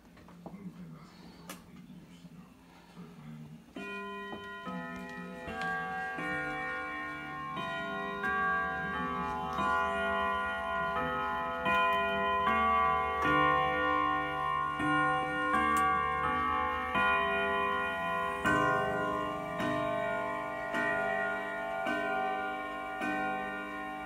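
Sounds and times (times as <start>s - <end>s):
grandfather clock chiming: 3.0s - 24.0s.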